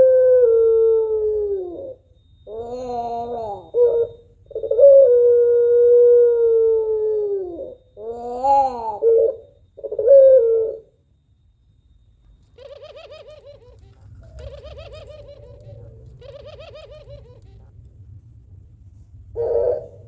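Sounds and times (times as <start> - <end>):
dove cooing: 0.0 - 11.0, 12.5 - 17.8, 19.3 - 20.0.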